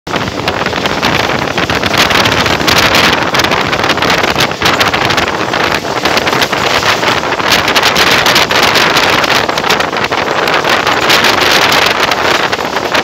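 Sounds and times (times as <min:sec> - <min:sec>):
train running on track: 0:00.1 - 0:13.0
wind buffeting microphone: 0:00.1 - 0:13.0.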